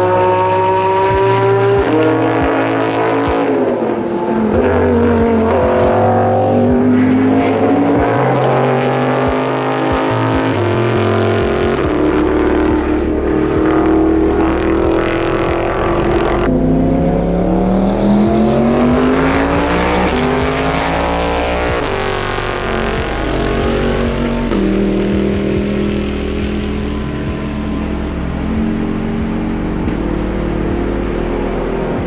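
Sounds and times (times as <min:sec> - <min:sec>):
high-revving race car engine: 0:00.0 - 0:32.0.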